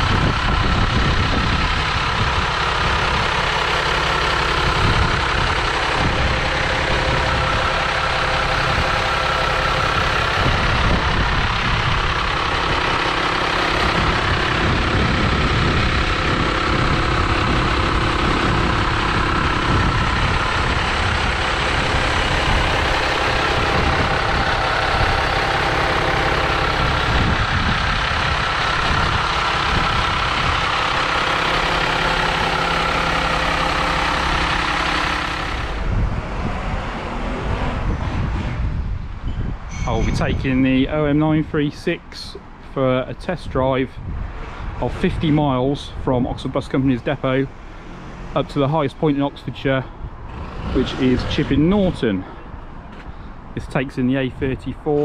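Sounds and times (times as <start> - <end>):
diesel bus engine idling: 0.0 - 55.0.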